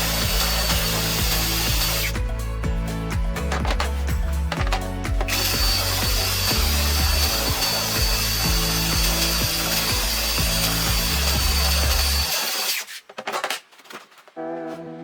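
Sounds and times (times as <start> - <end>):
power tool whining: 0.0 - 2.4, 3.6 - 13.5
background music with beat: 0.0 - 12.4.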